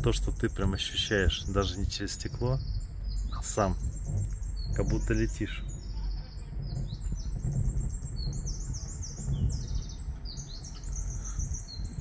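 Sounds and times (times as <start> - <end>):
songbirds chirping and singing: 0.0 - 12.0
steady low rumble: 0.0 - 12.0.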